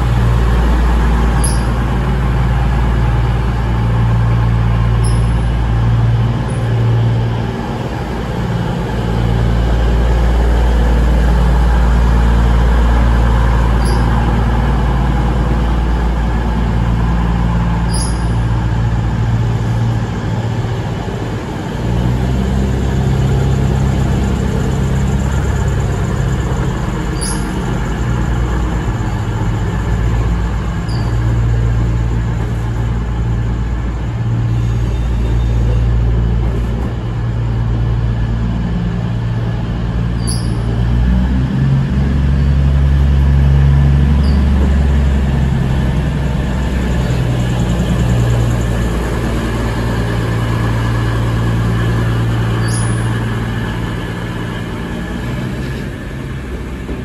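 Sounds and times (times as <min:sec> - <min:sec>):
diesel engines idling: 0:00.0 - 0:57.0.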